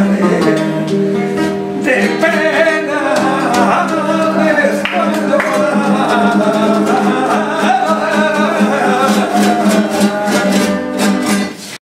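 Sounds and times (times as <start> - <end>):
man singing flamenco: 0.0 - 11.6
flamenco guitar strumming: 0.0 - 11.8.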